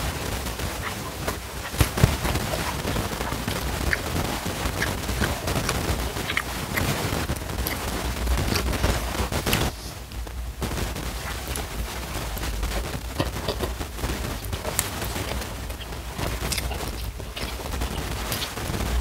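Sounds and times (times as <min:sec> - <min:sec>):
sharp clicks and crackles: 0:00.0 - 0:19.0
person chewing food: 0:00.8 - 0:09.9, 0:11.2 - 0:19.0
wet mouth sounds: 0:00.8 - 0:10.1, 0:11.2 - 0:19.0.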